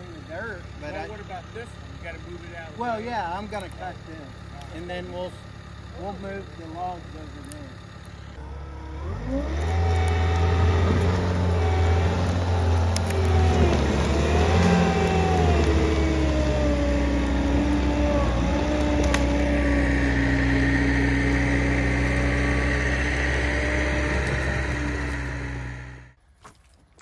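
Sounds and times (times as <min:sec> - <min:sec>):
vehicle engine revving: 0:00.0 - 0:26.2.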